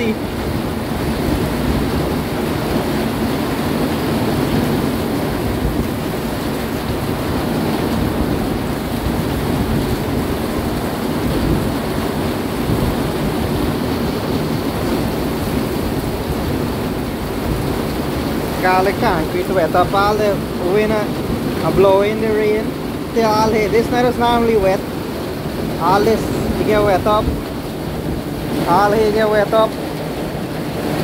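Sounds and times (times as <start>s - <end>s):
heavy rain pouring: 0.0s - 31.0s
strong wind gusting: 0.0s - 31.0s.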